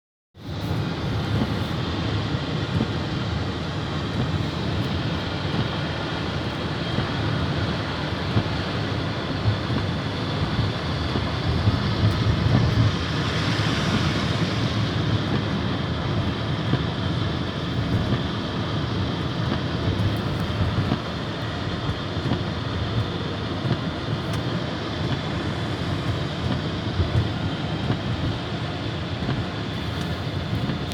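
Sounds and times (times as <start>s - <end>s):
city street rumble: 0.4s - 30.9s.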